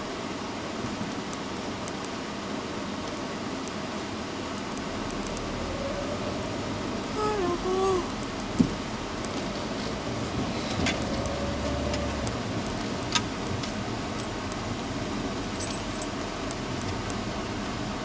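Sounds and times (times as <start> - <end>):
car engine and tyres running: 0.0 - 18.0.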